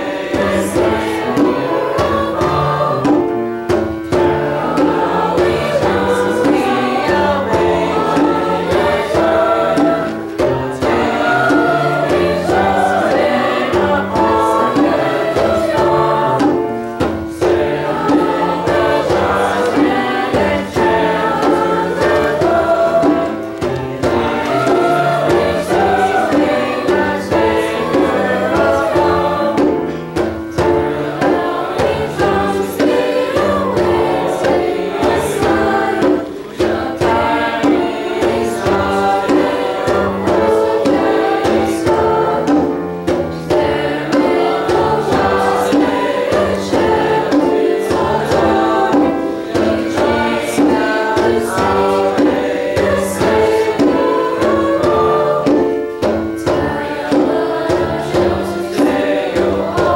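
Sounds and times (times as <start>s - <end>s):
choir singing: 0.0s - 59.9s
piano accompaniment: 0.0s - 59.9s.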